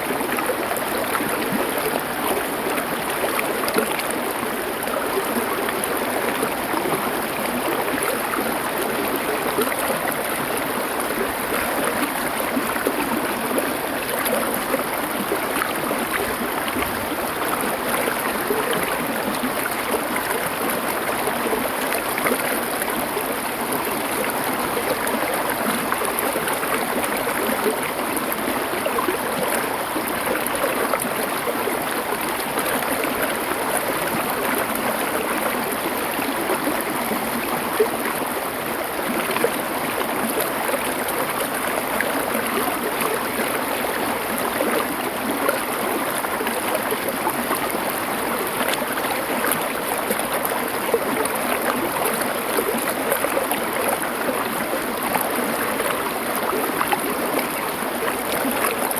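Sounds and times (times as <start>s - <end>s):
stream flowing over stones: 0.0s - 58.9s.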